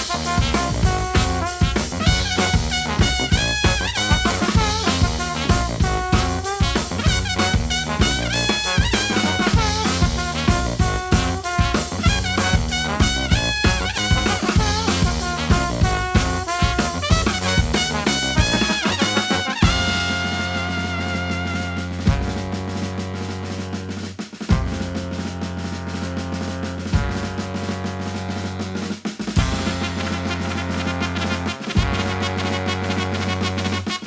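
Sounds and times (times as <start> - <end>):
brass band with drum kit: 0.0 - 34.0.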